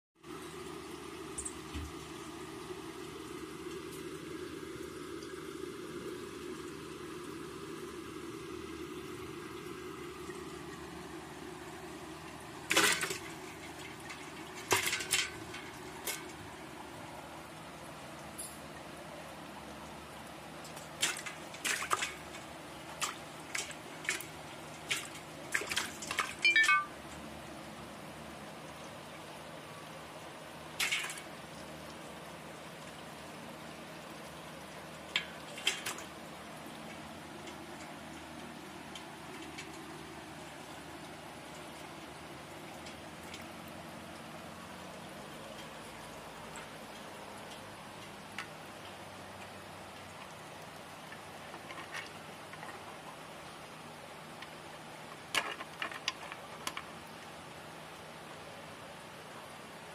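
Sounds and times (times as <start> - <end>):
water splashing in a metal bowl: 0.2 - 27.6, 30.6 - 57.0.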